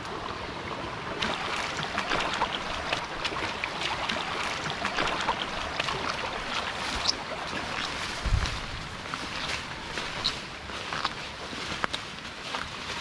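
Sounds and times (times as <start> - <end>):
stream water splashing: 0.0 - 13.0.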